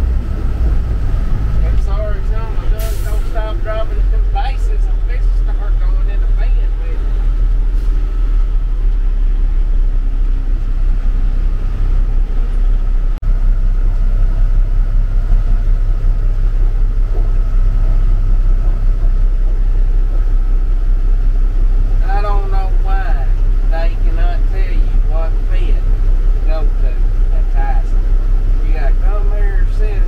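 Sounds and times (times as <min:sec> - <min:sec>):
thin steady whine: 0:00.0 - 0:30.0
truck diesel engine rumble: 0:00.0 - 0:30.0.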